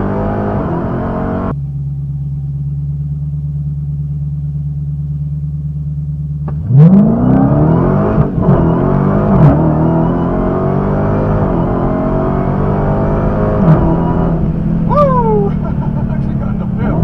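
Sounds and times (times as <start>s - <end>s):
car engine rumbling and accelerating: 0.0s - 17.0s.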